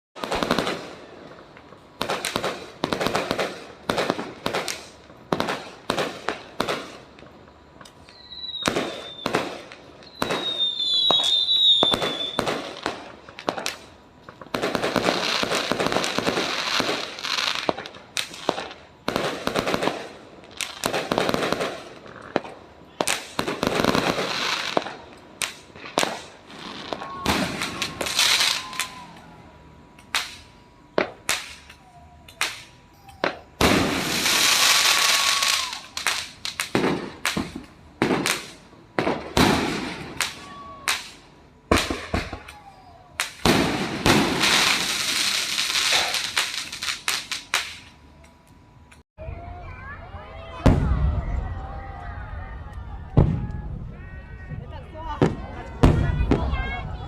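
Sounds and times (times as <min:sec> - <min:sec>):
firework bangs: 0:00.2 - 0:48.0, 0:50.5 - 0:51.7, 0:53.1 - 0:57.0
firework crackling: 0:00.2 - 0:49.0
high firework whistles: 0:02.0 - 0:48.3.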